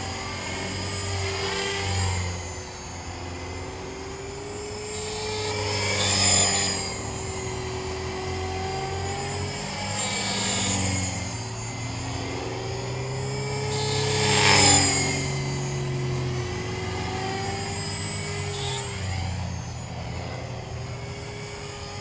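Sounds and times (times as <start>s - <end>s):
bearing squeal: 0.0s - 22.0s
rc helicopter rotor and motor whine: 0.0s - 22.0s.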